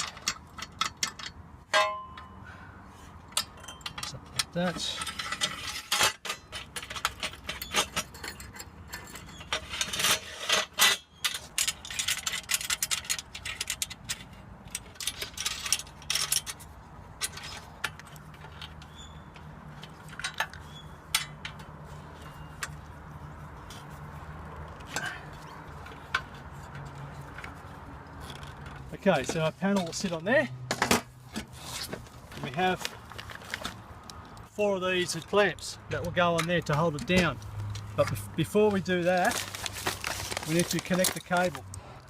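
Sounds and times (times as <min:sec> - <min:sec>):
metal hardware clinking and scraping: 0:00.0 - 0:02.5, 0:03.2 - 0:41.8.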